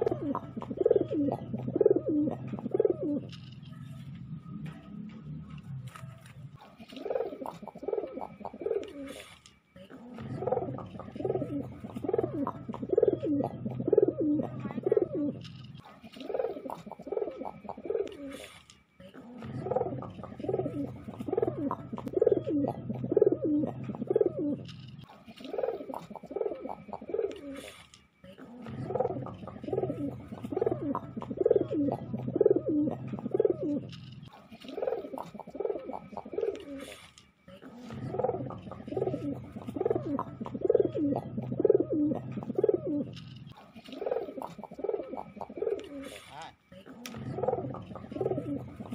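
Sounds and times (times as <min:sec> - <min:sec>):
pigeon cooing: 0:00.0 - 0:48.9.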